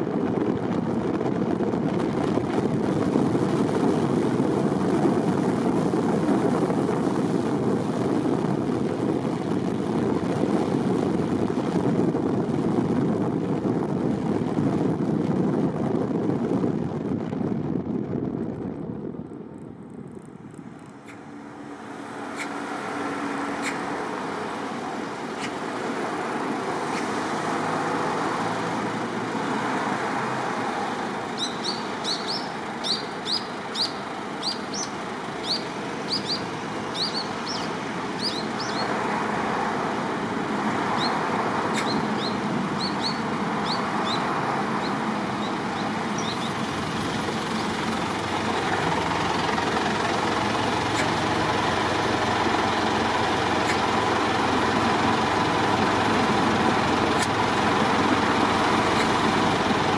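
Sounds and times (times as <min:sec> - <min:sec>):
car driving road noise: 0:00.0 - 0:59.9.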